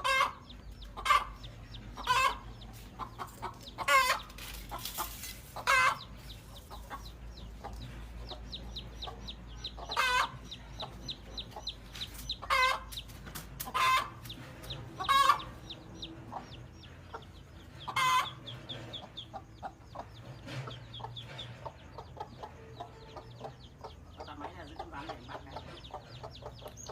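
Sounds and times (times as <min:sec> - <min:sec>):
chicks peeping faintly: 0:00.0 - 0:26.9.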